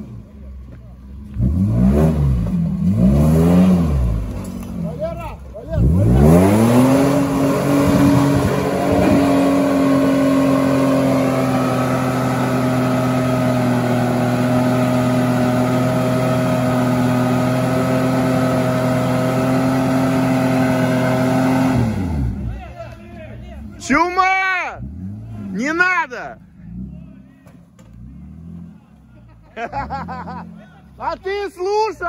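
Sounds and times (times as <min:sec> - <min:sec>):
off-road truck engine revving: 0:00.0 - 0:32.0.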